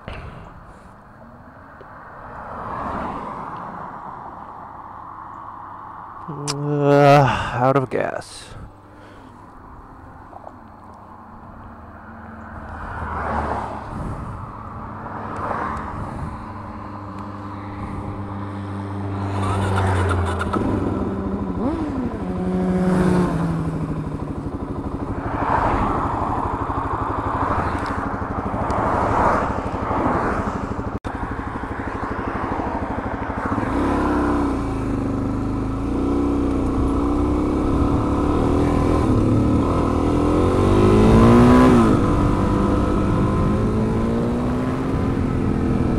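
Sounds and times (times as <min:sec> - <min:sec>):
motorcycle engine revving: 0:08.6 - 0:45.9.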